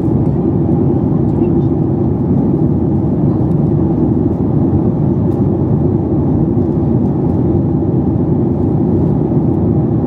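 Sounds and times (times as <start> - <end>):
airplane cabin engine rumble: 0.0 - 10.0.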